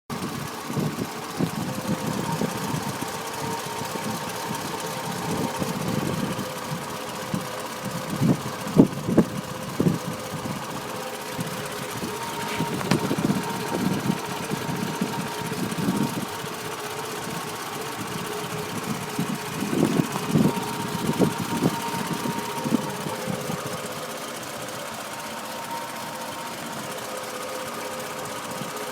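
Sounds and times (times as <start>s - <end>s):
car engine idling roughly: 0.1s - 28.9s.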